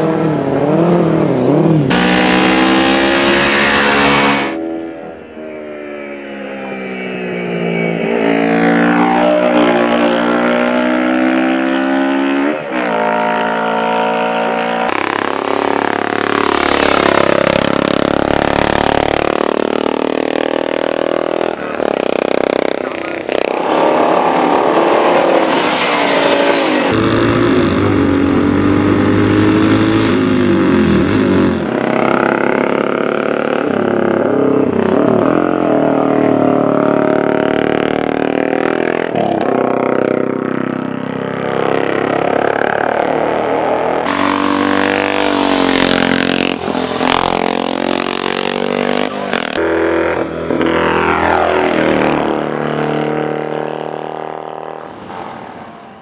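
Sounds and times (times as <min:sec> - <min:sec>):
racing motorcycle engines: 0:00.0 - 0:56.0.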